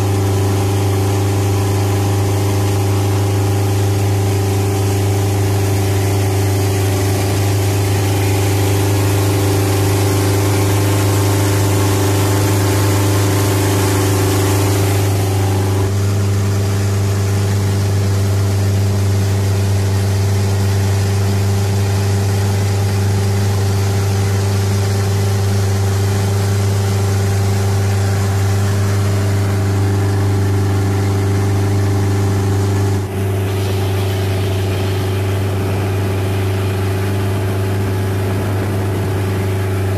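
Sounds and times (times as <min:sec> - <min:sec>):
boat engine drone: 0:00.0 - 0:39.9
water hiss: 0:00.0 - 0:39.9.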